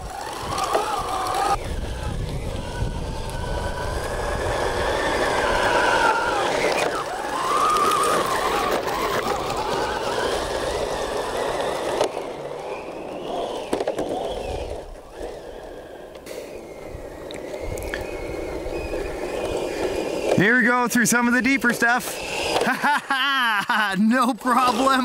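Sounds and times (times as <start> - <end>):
tracks rattling over dirt: 0.0 - 23.0
electric motors whining: 0.0 - 23.4, 24.4 - 25.0.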